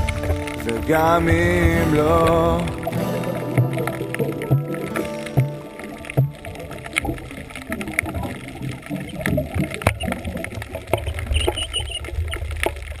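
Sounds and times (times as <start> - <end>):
underwater rumble: 0.0 - 13.0.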